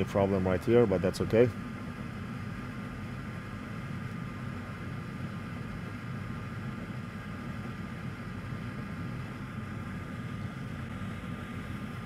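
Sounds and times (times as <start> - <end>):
fume extractor fan hum: 0.0 - 12.0.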